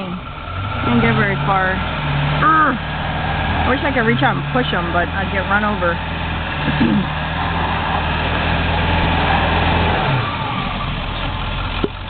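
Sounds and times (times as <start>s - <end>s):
pickup engine running hard: 0.0s - 12.0s
tires spinning on snow: 0.0s - 12.0s.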